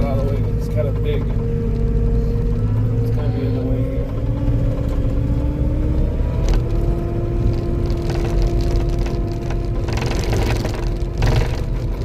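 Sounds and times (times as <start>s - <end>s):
diesel engine and hydraulics: 0.0s - 12.0s.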